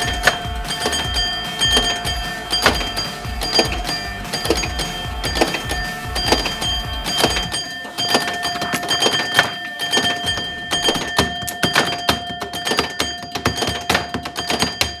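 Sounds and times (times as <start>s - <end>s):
pinball clicks and thunks: 0.0s - 15.0s
pinball ringing tones: 0.0s - 15.0s.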